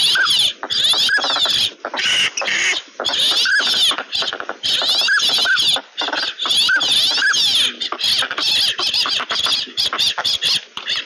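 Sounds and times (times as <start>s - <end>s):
duck whistles: 0.0s - 11.0s
harsh rasping duck calls: 0.0s - 11.0s.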